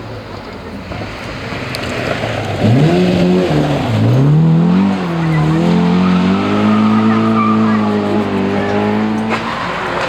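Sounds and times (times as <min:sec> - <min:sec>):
rally car engine accelerating: 0:00.8 - 0:10.0.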